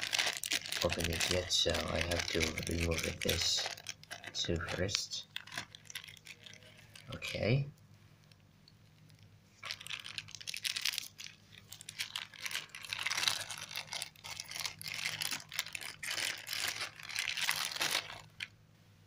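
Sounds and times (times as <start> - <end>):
plastic bag crinkling: 0.0 - 7.6, 8.2 - 18.6.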